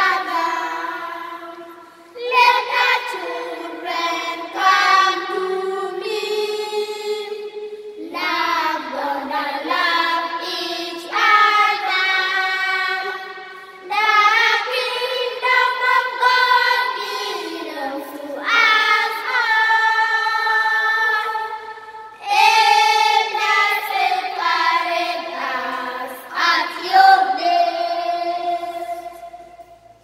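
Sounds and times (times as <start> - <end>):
girls choir singing unaccompanied: 0.0 - 30.0.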